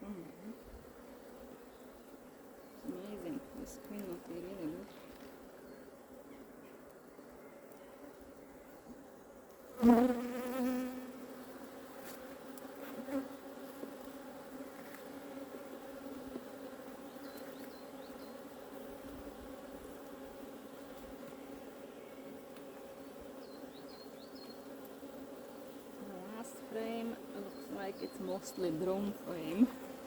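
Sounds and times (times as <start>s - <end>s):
bee buzzing close by: 0.0s - 30.0s
honeybees humming: 0.0s - 30.0s.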